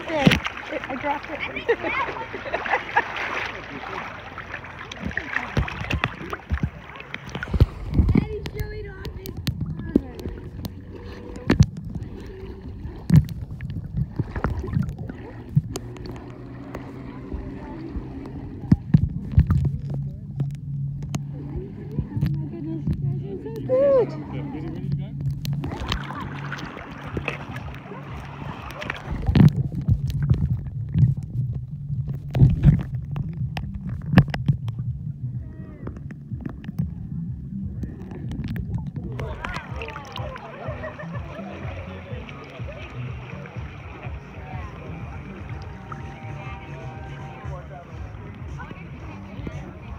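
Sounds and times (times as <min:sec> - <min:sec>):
muffled underwater rumble: 0:00.0 - 0:49.9
muffled water sloshing: 0:00.0 - 0:49.9
steady low hum: 0:00.0 - 0:49.9.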